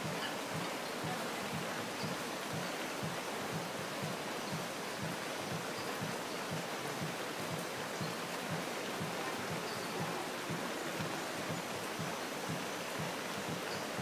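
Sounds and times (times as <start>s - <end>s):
raindrop taps: 0.0s - 14.0s
steady rain hiss: 0.0s - 14.0s.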